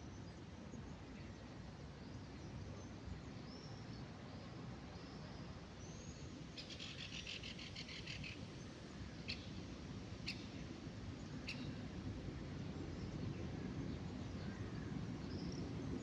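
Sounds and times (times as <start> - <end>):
low steady background rumble: 0.0 - 16.0
songbirds singing: 0.2 - 16.0.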